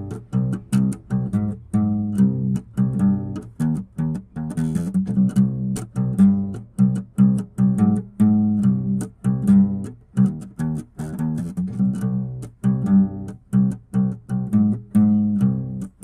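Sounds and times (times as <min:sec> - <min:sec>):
plucked guitar music with bass: 0:00.0 - 0:16.0.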